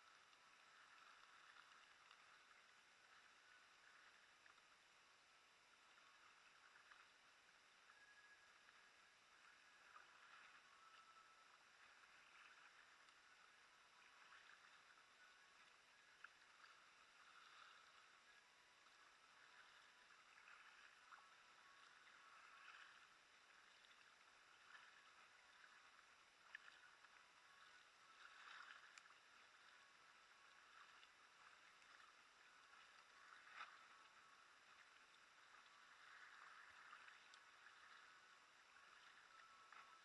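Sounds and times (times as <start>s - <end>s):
paddle stroke splashes: 0.0s - 4.7s, 8.6s - 40.0s
water lapping at hull: 0.0s - 40.0s.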